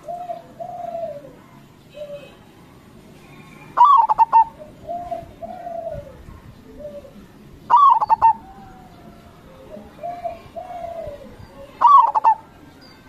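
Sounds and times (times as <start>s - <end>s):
dove stuttering coo calls: 0.0s - 2.3s, 3.2s - 12.6s.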